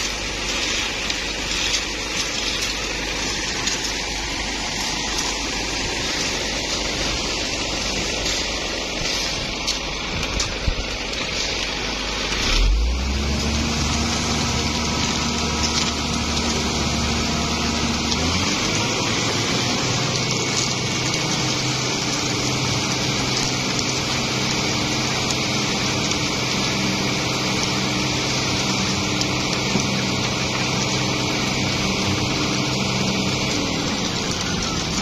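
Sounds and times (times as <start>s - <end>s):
concrete pouring down chute: 0.0s - 35.0s
truck engine running: 0.0s - 35.0s.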